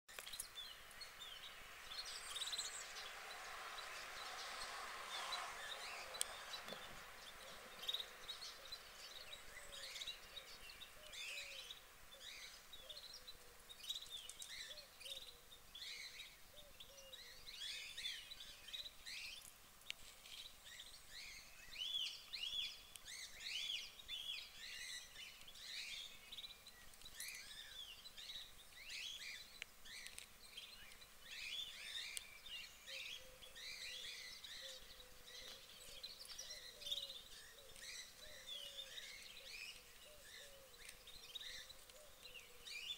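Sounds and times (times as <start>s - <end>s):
small birds chirping: 0.1s - 42.9s
lower bird calls: 0.2s - 19.5s, 20.2s - 42.9s.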